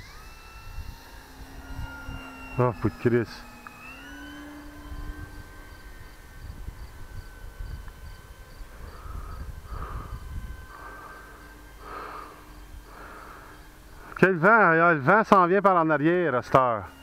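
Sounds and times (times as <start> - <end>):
model plane electric motor whine: 0.0 - 17.0
wind rumbling on microphone: 0.1 - 14.1.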